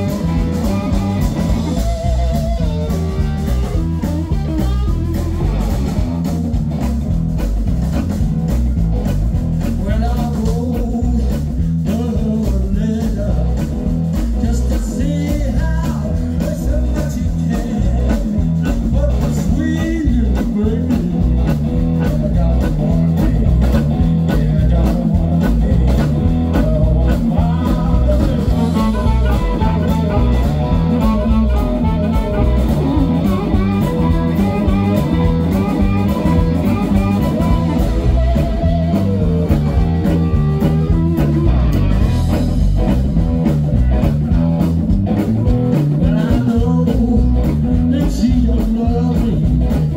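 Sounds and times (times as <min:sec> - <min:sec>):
blues harmonica: 0:00.0 - 0:49.9
blues rock band playing: 0:00.0 - 0:49.9.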